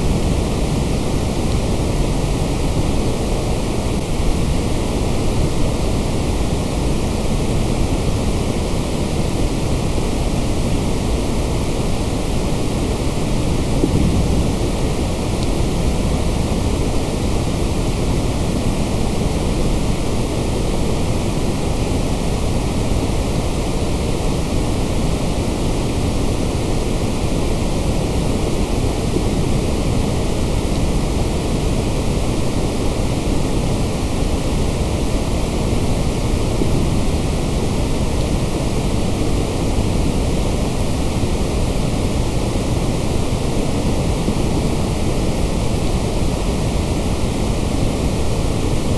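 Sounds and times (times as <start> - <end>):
steady electronic hiss: 0.0 - 48.9.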